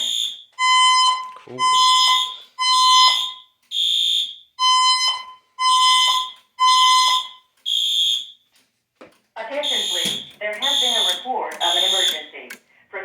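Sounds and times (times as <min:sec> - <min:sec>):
fire alarm tone pulses: 0:00.0 - 0:08.5, 0:09.5 - 0:12.4.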